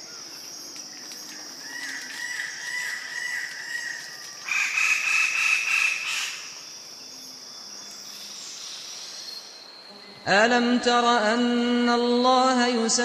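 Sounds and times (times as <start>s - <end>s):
forest bird calling: 0.0s - 10.4s
insect drone: 0.0s - 13.0s.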